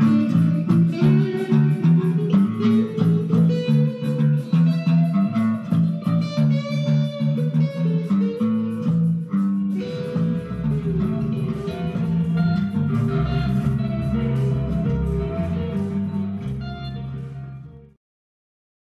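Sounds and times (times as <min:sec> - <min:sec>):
electric bass line: 0:00.0 - 0:18.0
electric guitar playing: 0:00.0 - 0:18.0.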